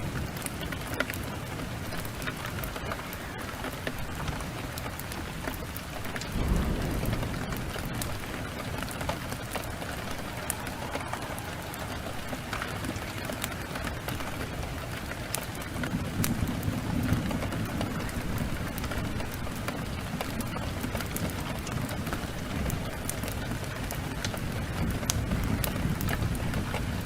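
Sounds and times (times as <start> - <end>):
heavy rain: 0.0 - 27.0
thunder rumble: 0.0 - 27.0
wood fire crackling: 0.0 - 27.0.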